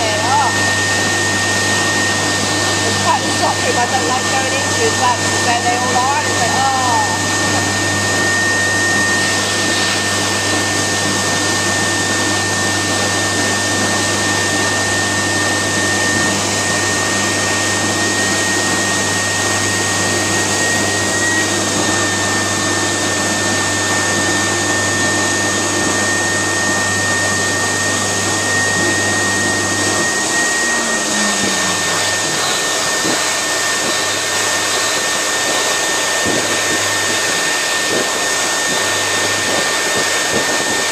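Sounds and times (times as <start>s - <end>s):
blower whooshing with high whine: 0.0s - 40.9s.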